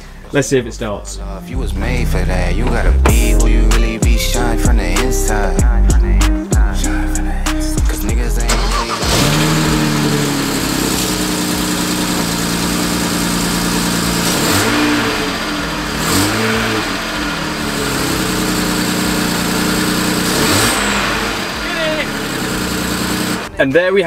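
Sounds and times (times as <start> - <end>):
car engine idling: 0.0 - 23.7.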